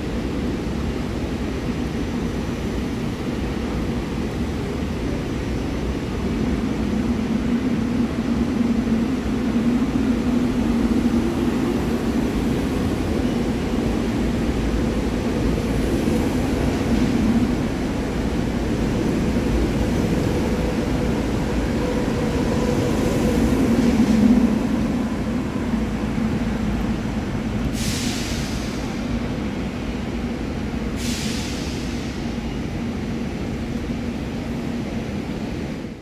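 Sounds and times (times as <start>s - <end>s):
electric train rumbling and humming: 0.0s - 36.0s.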